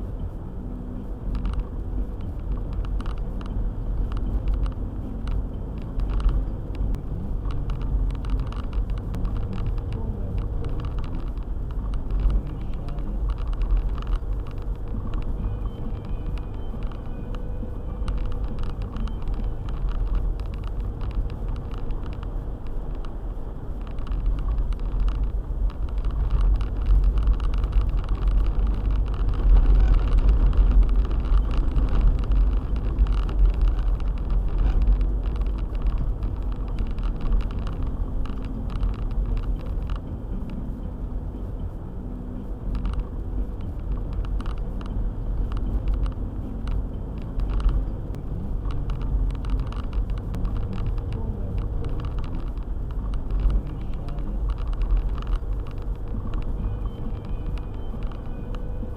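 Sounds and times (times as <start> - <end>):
car engine and tyres rumbling: 0.0 - 58.9
small ticks and knocks: 1.3 - 40.6, 42.7 - 58.8.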